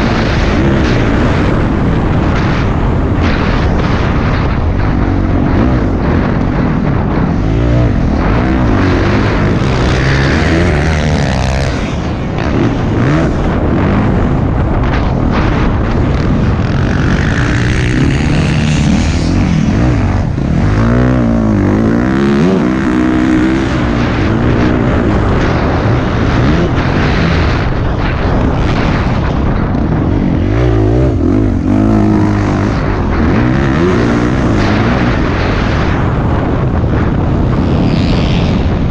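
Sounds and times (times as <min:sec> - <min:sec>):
dirt bike engine revving: 0:00.0 - 0:38.9
wind noise: 0:00.0 - 0:38.9.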